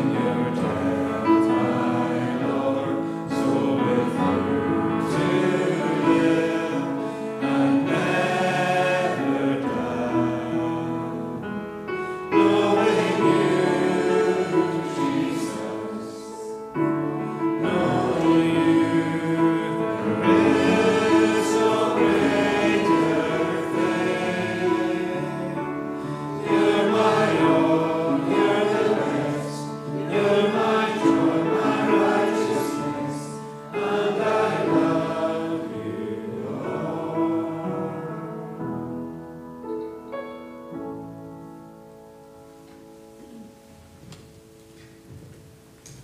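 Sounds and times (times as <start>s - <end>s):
choir singing a hymn: 0.0s - 41.9s.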